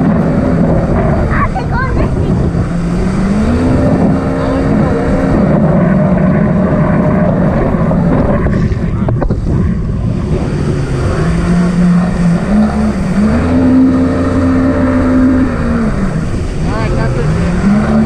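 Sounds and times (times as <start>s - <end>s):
jet ski engine running: 0.0s - 18.0s
wind on microphone: 0.0s - 18.0s.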